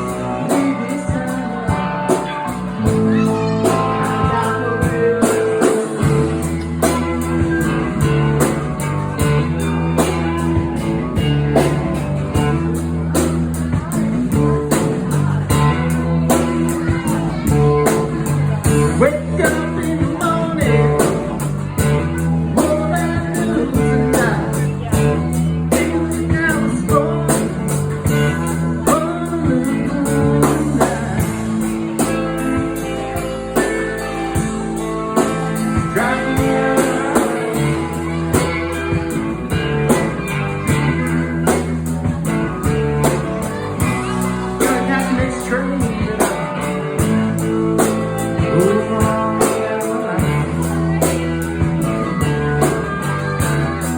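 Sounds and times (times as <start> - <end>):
blues band with guitar: 0.0 - 53.9.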